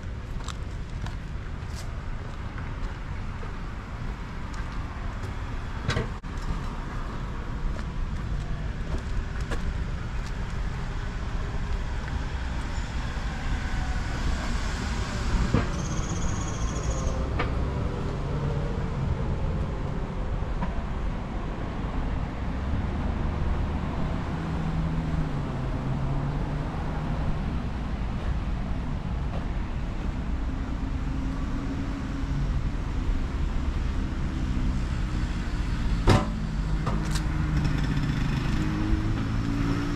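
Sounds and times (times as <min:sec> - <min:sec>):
cars passing: 0:00.0 - 0:39.9.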